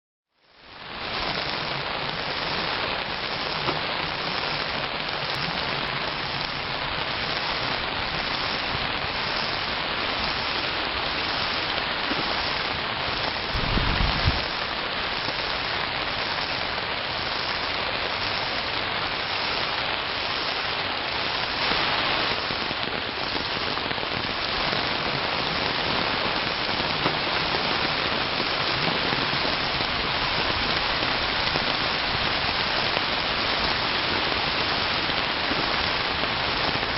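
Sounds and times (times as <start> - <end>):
heavy rain hissing: 0.3 - 36.9.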